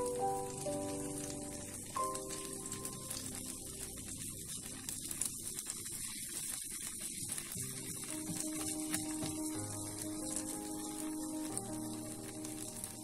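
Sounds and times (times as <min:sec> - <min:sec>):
omelette sizzling in pan: 0:00.0 - 0:13.0
soft background music: 0:00.0 - 0:13.0.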